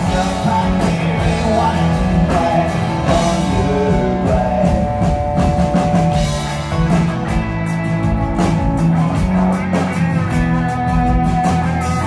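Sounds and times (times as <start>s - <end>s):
country-rock band playing: 0.0s - 12.0s.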